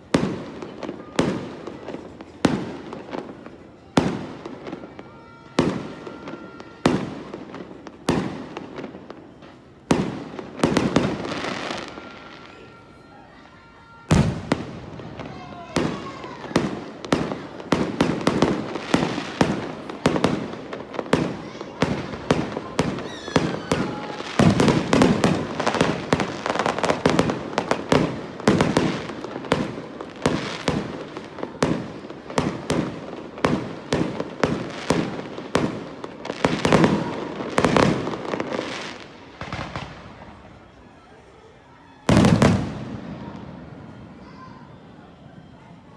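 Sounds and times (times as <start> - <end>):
fireworks bangs: 0.0 - 45.9.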